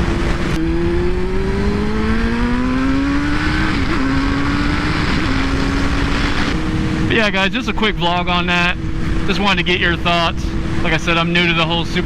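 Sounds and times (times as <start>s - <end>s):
motorcycle engine revving: 0.0s - 11.1s
wind rushing on microphone: 0.0s - 12.0s.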